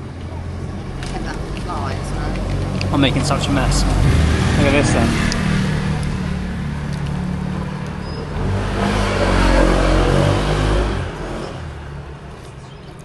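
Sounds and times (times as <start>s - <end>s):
vehicle engine revving: 0.0s - 12.4s.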